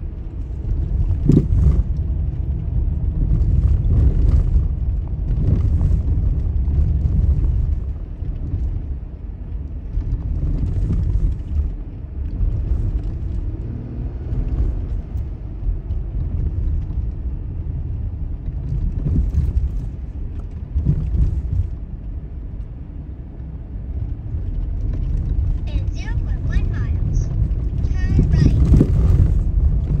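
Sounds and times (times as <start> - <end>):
car interior road rumble: 0.0 - 30.0.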